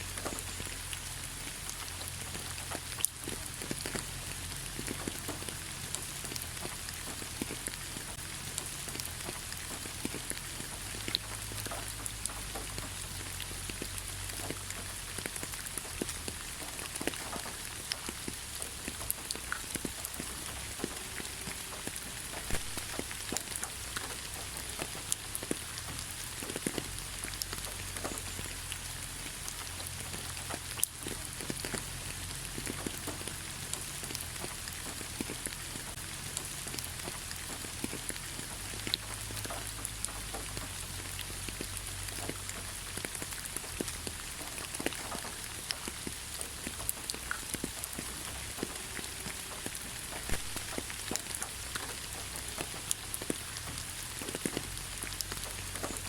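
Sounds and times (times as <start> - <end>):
raindrops pattering: 0.0 - 56.0
steady rain hiss: 0.0 - 56.0.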